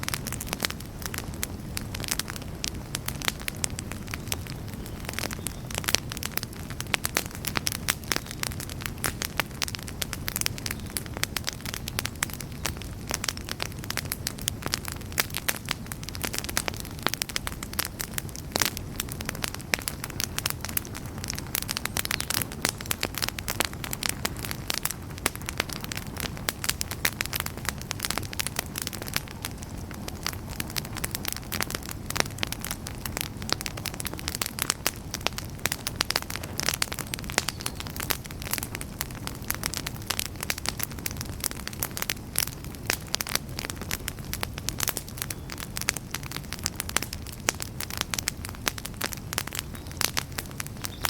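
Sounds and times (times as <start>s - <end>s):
campfire pops and snaps: 0.0s - 51.0s
rush of flames: 0.0s - 51.0s.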